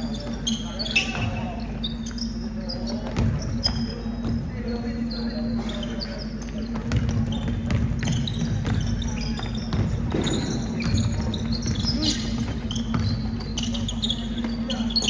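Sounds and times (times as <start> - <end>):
sneakers squeaking: 0.0 - 15.0
voices: 0.0 - 15.0.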